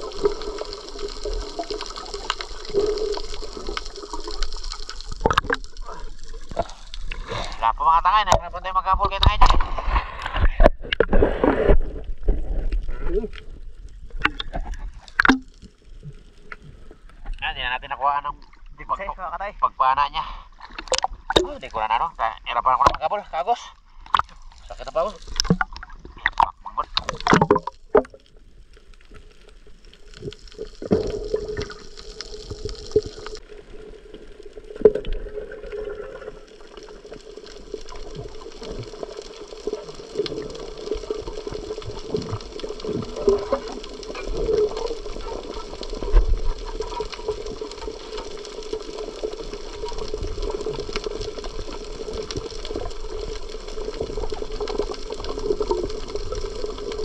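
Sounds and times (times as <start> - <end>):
underwater rushing water: 0.0 - 19.3, 20.0 - 57.0.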